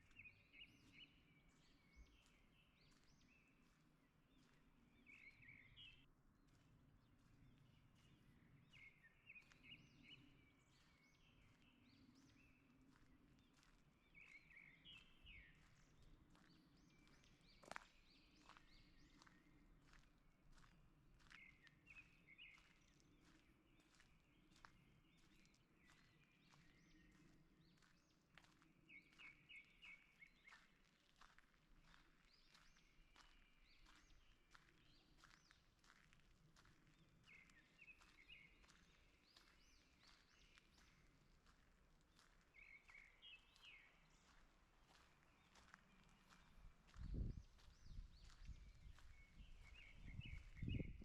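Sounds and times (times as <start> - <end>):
faint birds chirping: 0.0 - 51.0
footsteps on forest path: 0.0 - 51.0.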